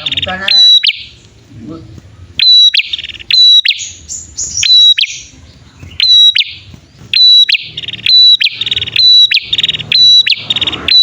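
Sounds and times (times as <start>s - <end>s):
birds whistled calls: 0.0s - 1.4s, 2.2s - 11.0s.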